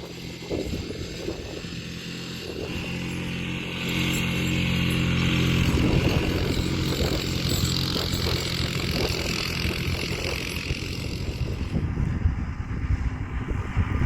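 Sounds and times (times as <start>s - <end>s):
quad bike engine under load: 0.0s - 13.4s.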